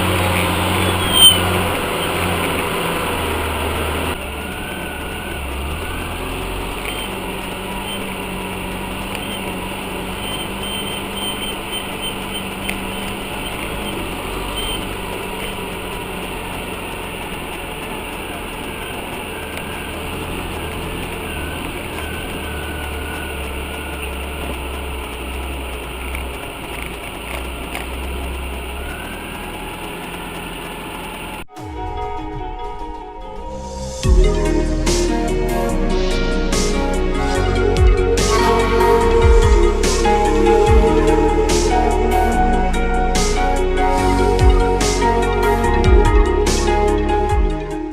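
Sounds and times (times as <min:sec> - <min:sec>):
off-road vehicle engine running: 0:00.0 - 0:32.0, 0:33.5 - 0:47.9.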